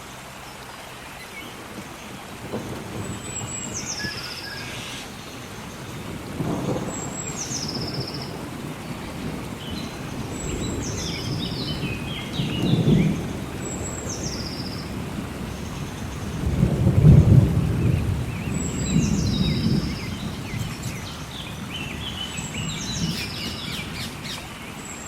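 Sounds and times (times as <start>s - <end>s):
songbird singing: 0.0s - 25.0s
steady rain: 0.0s - 25.0s
thunder rolling: 1.7s - 24.6s.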